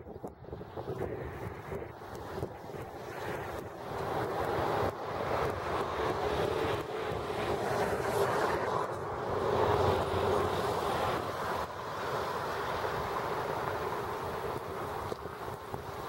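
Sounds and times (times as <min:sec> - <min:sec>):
road traffic passing on a bridge: 0:00.0 - 0:16.0.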